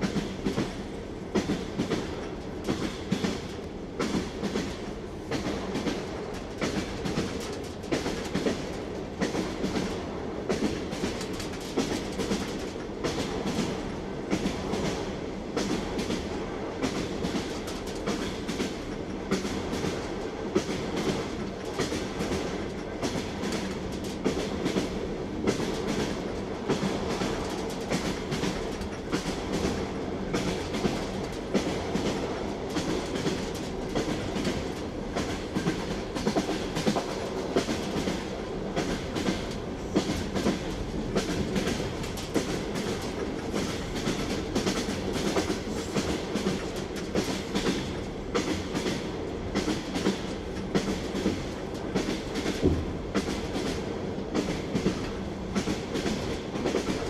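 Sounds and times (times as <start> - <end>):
train wheels clattering: 0.0 - 57.0.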